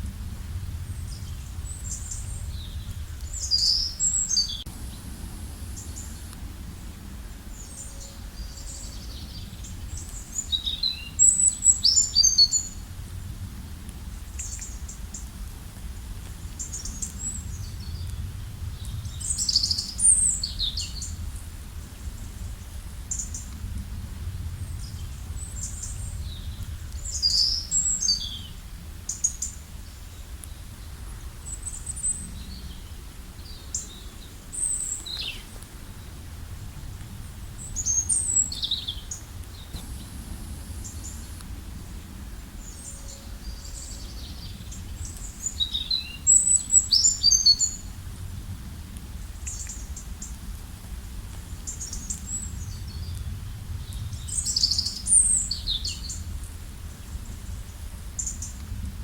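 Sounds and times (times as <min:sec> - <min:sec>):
songbirds singing: 0:00.6 - 0:06.4, 0:07.1 - 0:12.9, 0:14.1 - 0:15.3, 0:16.0 - 0:21.4, 0:24.6 - 0:48.0, 0:49.3 - 0:50.5, 0:51.5 - 0:58.8.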